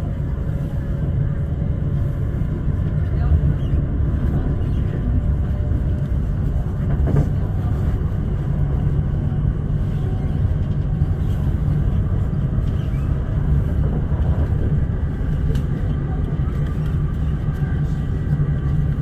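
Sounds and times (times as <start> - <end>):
train rumbling at speed: 0.0 - 19.0.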